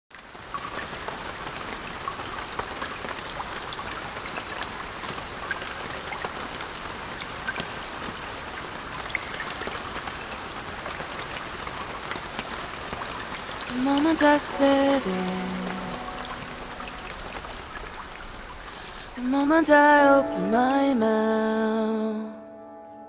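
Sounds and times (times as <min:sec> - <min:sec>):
steady rain: 0:00.1 - 0:21.6.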